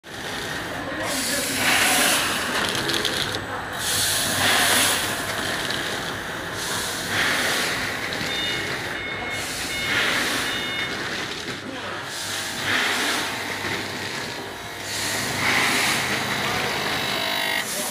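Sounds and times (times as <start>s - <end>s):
packing machine running: 0.0s - 17.9s.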